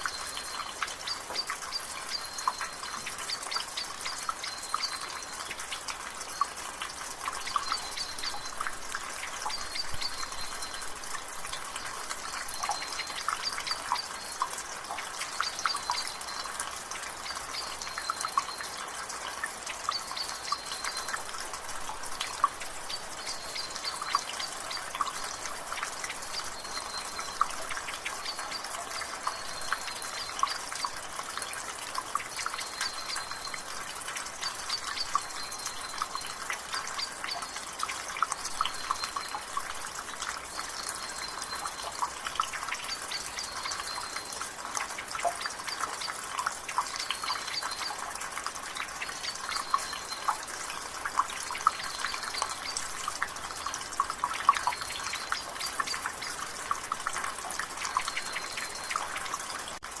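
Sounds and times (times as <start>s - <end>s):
rainwater dripping from a gutter: 0.0s - 60.0s.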